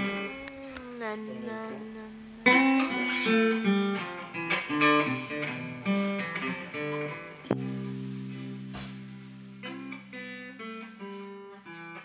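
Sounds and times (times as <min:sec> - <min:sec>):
acoustic guitar: 0:00.0 - 0:12.0
bass guitar: 0:00.0 - 0:12.0.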